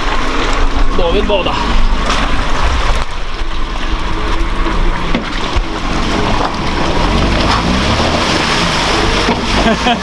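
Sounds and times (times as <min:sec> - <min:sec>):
truck engine running: 0:00.0 - 0:10.0
water rushing and splashing: 0:00.0 - 0:10.0.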